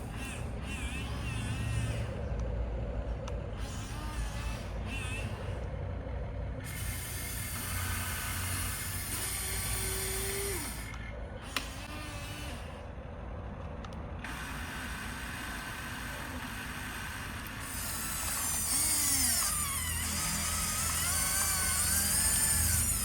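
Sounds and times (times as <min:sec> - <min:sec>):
toy motors whirring and ratcheting: 0:00.0 - 0:02.4, 0:03.4 - 0:05.8, 0:06.6 - 0:12.9, 0:14.3 - 0:23.0
steady motor tone: 0:00.0 - 0:23.0.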